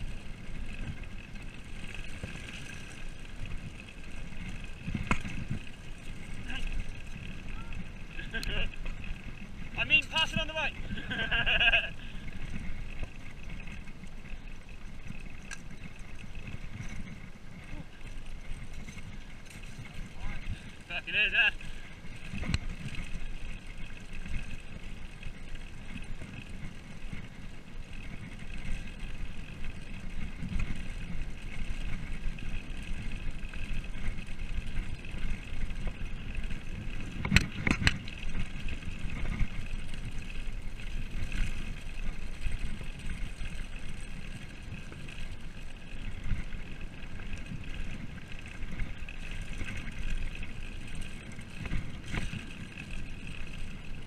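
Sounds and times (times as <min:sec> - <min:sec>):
bike rolling on gravel: 0:00.0 - 0:54.0.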